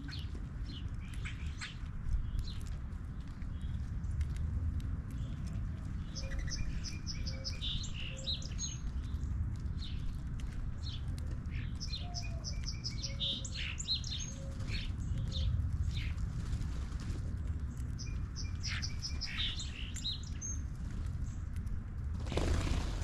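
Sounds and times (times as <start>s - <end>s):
small birds chirping: 0.0s - 22.8s
steady low rumble: 0.0s - 23.0s.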